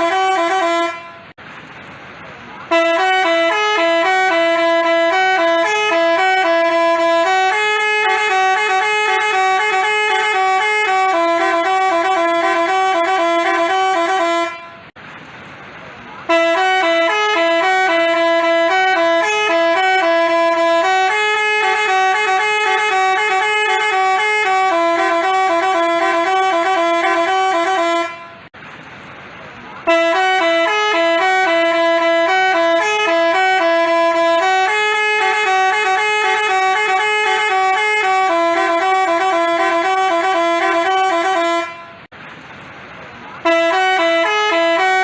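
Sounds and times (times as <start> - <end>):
multi-tone bus horn melody: 0.0 - 1.4, 2.6 - 15.0, 16.2 - 28.6, 29.8 - 42.1, 43.4 - 45.0.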